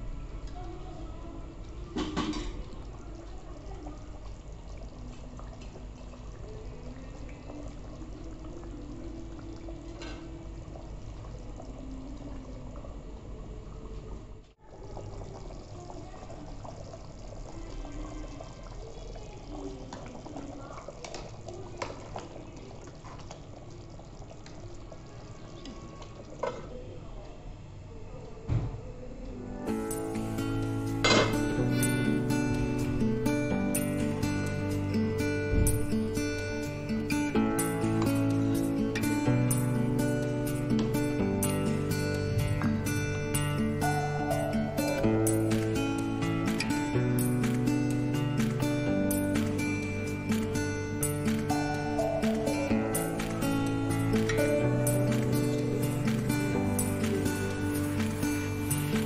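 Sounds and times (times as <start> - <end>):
gravy simmering and bubbling: 0.0 - 59.0.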